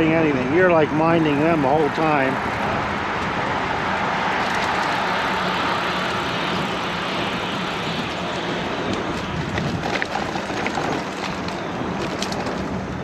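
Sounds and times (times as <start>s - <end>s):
wind on microphone: 0.0s - 13.0s
tyres rolling on pavement: 1.1s - 13.0s.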